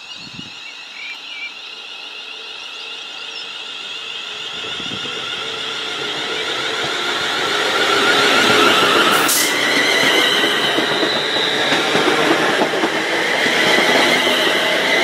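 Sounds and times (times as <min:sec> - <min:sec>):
electric train high whine: 0:00.0 - 0:15.0.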